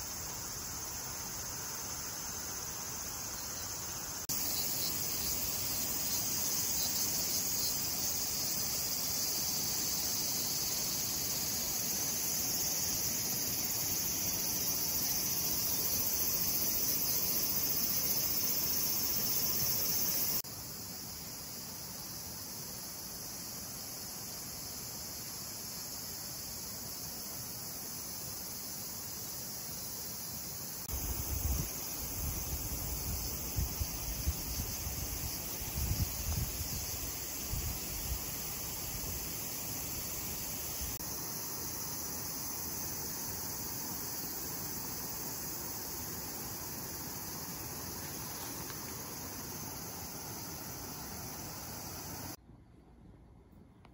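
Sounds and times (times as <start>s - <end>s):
high-pitched insect chorus: 0.0s - 52.4s.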